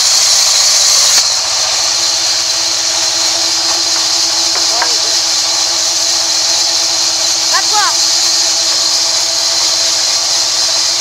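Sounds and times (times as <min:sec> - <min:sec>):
band saw cutting log: 0:00.0 - 0:11.0.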